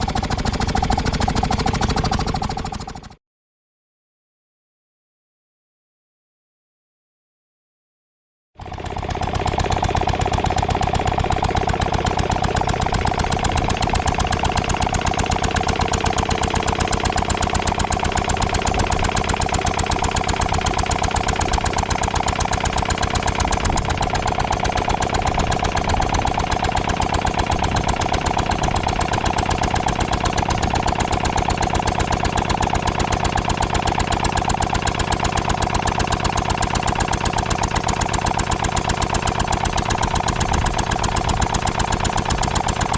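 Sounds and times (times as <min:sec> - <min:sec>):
air compressor running: 0:00.0 - 0:03.2, 0:08.8 - 0:42.9.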